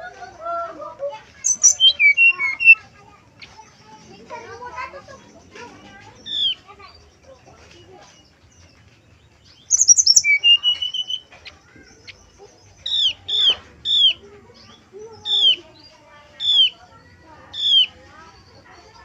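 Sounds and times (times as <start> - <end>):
bird song: 0.0 - 19.0.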